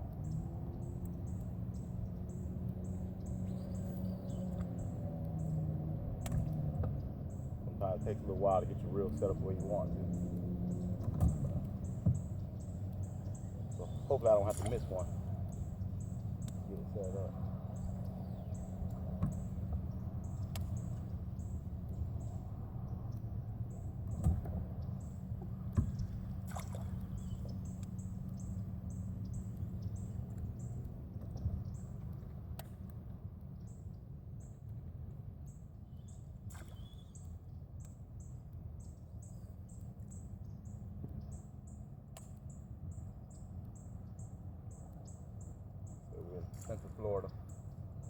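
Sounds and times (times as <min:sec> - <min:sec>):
low steady rumble: 0:00.0 - 0:48.0.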